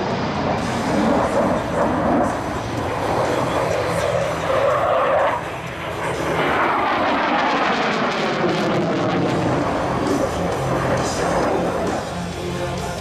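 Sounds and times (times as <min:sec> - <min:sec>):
fighter jet passing: 0:00.0 - 0:13.0.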